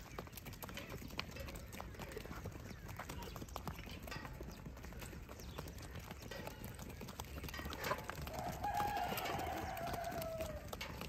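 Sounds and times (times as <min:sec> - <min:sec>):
goat hooves on dry ground: 0:00.0 - 0:11.0.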